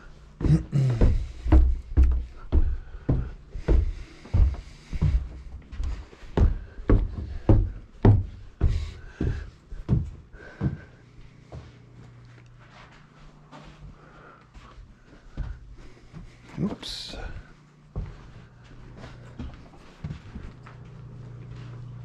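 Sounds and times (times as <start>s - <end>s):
footsteps climbing stairs: 0.0s - 22.0s.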